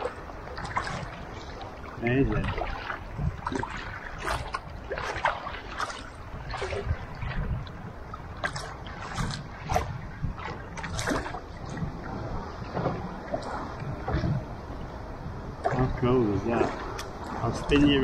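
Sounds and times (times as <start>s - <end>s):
low wind rumble on microphone: 0.0s - 18.0s
water splashing against kayak hull: 0.0s - 18.0s.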